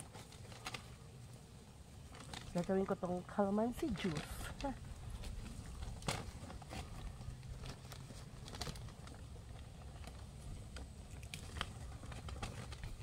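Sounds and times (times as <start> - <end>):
leaves rustling: 0.0 - 13.0.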